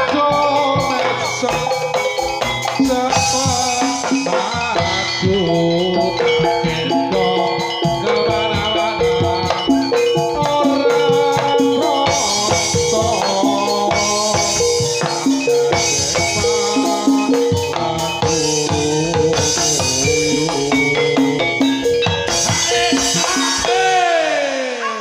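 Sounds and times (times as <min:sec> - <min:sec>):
busy drumming: 0:00.0 - 0:25.0
cymbals: 0:00.0 - 0:25.0
ringing metal percussion melody: 0:00.0 - 0:25.0.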